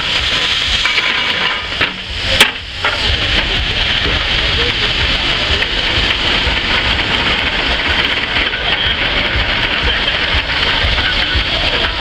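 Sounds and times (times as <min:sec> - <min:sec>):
steam engine chuffing: 0:00.0 - 0:12.0
steam hissing: 0:00.0 - 0:12.0.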